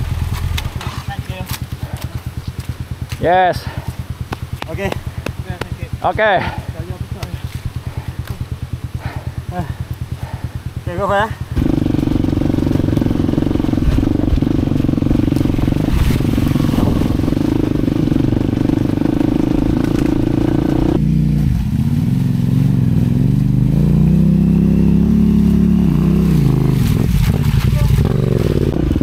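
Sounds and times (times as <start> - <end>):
dirt bike engine: 0.0 - 29.0.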